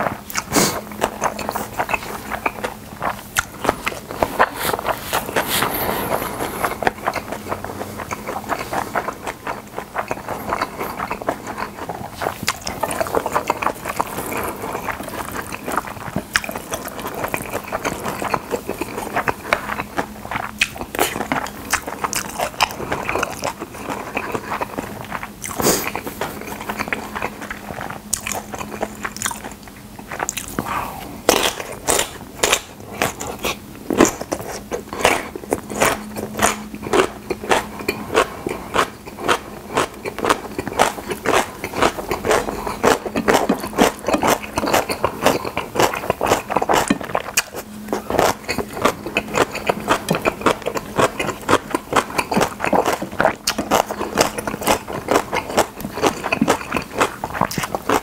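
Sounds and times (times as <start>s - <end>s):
chewing noodles: 0.0s - 58.0s.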